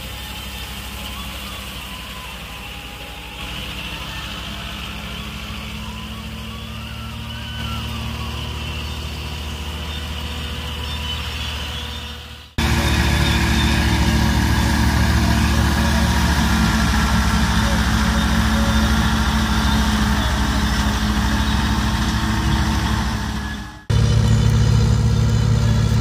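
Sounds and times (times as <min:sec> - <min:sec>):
straw chopper rushing whir: 0:00.0 - 0:26.0
tractor diesel engine running: 0:00.0 - 0:26.0.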